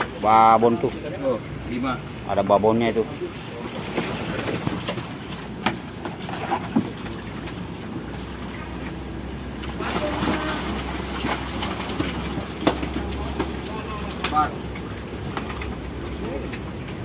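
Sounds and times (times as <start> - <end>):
water splashing in a tank: 0.0 - 17.0.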